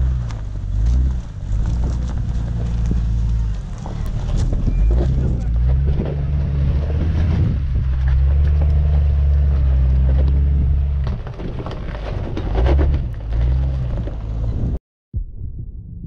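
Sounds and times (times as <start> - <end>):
car engine pulling under load: 0.0 - 14.8.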